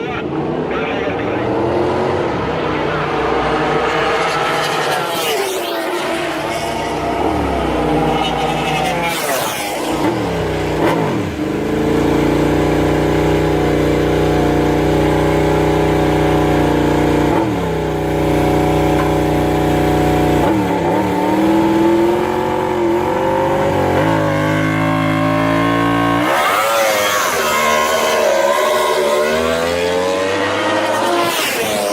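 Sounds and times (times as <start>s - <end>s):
racing motorcycle engine revving: 0.0s - 31.9s.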